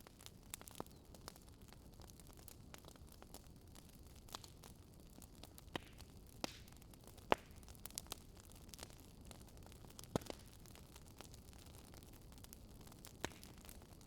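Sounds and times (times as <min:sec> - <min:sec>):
burning wood popping: 0:00.0 - 0:14.0
campfire crackling: 0:00.0 - 0:14.0.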